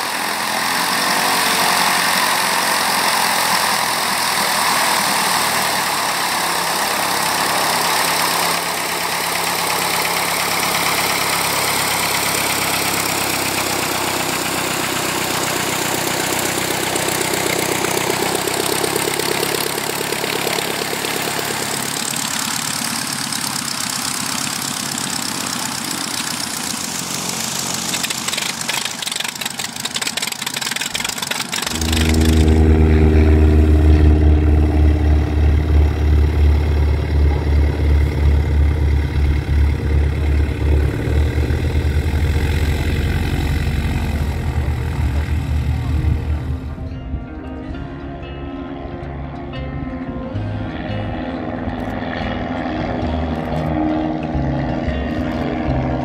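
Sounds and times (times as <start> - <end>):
aircraft piston engine idling: 0.0 - 46.9, 50.4 - 56.0.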